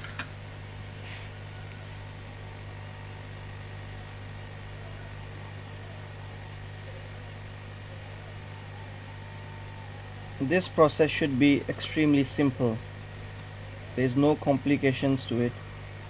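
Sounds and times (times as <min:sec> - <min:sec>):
low hum of electrical equipment: 0:00.0 - 0:16.0
faint high whine: 0:01.0 - 0:16.0.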